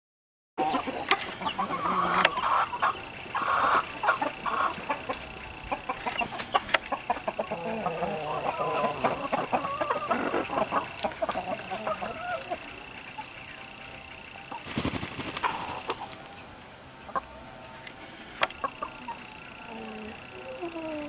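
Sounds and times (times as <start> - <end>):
chickens clucking: 0.6 - 21.0
steady high-pitched tone: 0.6 - 21.0.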